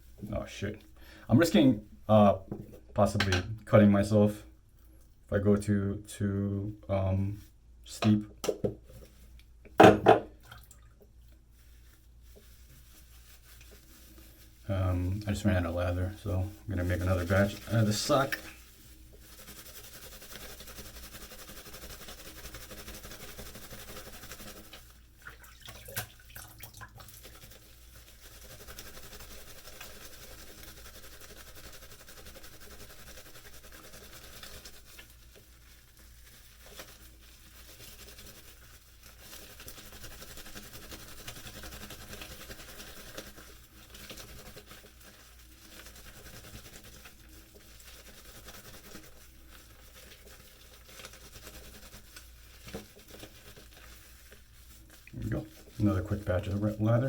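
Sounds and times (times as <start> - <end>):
wet sock rubbing lather: 10.5 - 57.0.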